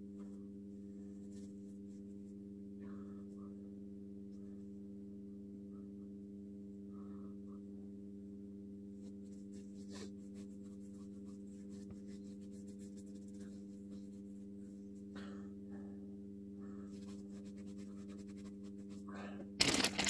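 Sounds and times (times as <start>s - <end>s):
low hum with tones: 0.0s - 20.0s.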